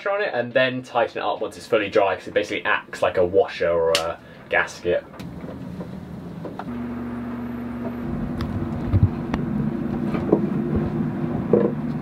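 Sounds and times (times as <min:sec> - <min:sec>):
steady mechanical hum: 0:01.6 - 0:12.0.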